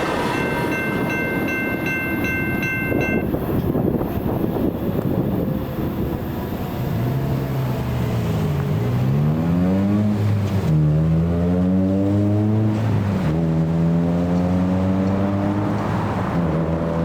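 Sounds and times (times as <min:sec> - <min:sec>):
vehicle engine accelerating: 0:00.0 - 0:17.0.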